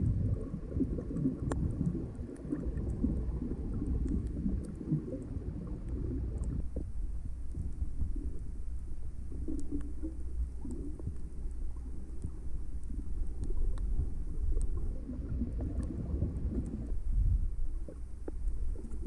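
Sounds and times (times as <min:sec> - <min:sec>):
underwater rumble of water: 0:00.0 - 0:19.0
faint clicks: 0:01.2 - 0:19.0.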